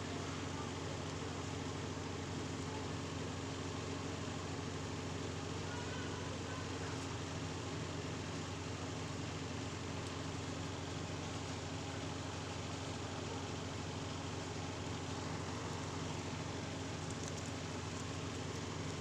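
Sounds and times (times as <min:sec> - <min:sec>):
mechanical hum with hiss: 0:00.0 - 0:19.0.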